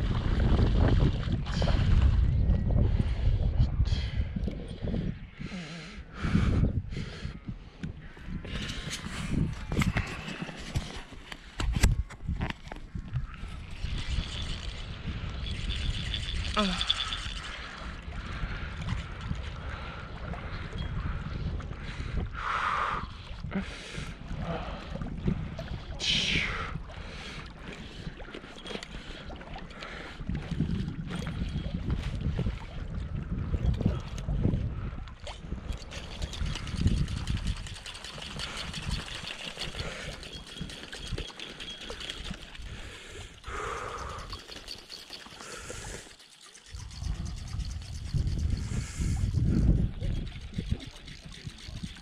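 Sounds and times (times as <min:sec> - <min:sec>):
wind buffeting microphone: 0:00.0 - 0:44.4, 0:46.7 - 0:52.0.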